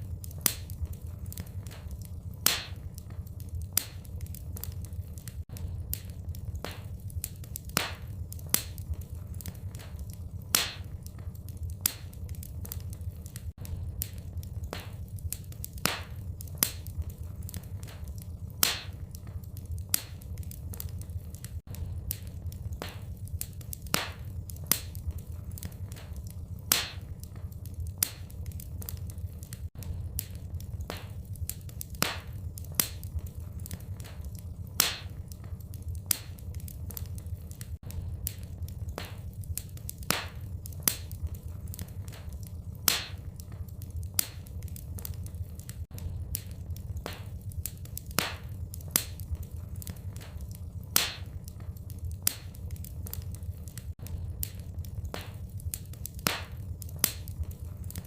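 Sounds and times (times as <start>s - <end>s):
low rumble: 0.0s - 47.8s, 48.4s - 58.0s
wood fire crackling: 0.0s - 58.0s.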